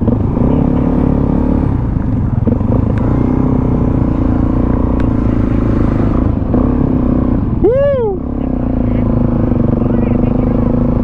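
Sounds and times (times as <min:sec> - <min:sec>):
motorcycle engine running steadily: 0:00.0 - 0:11.0
road rumble: 0:00.0 - 0:11.0.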